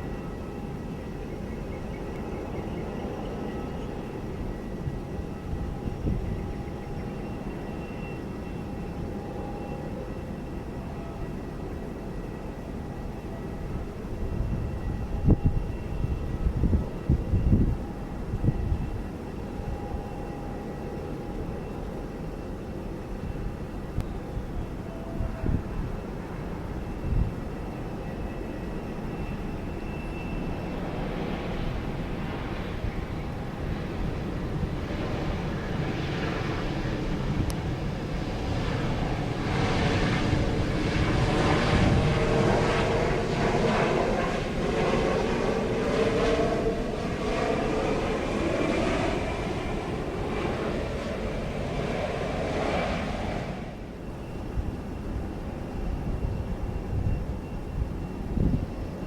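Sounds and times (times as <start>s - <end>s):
jet airliner engines running: 0.0s - 59.0s.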